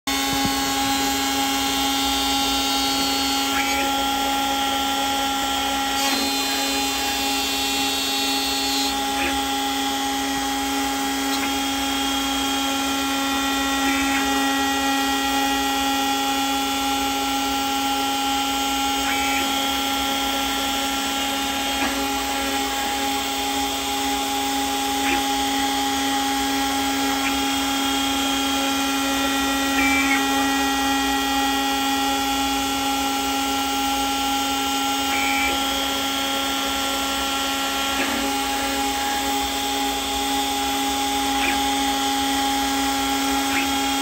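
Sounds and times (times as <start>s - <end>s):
cutter chirps: 0.1s - 44.0s
milling machine whine: 0.1s - 44.0s.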